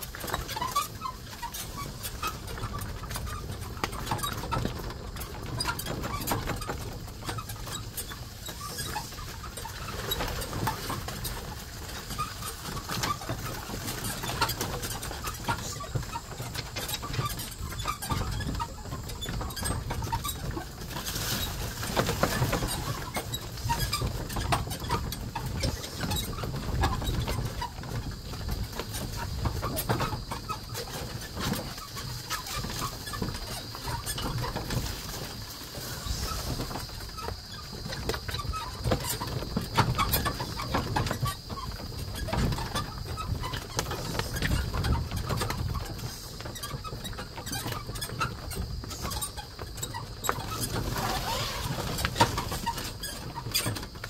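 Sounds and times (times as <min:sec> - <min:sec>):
cart wheels clattering and knocking: 0:00.0 - 0:54.0.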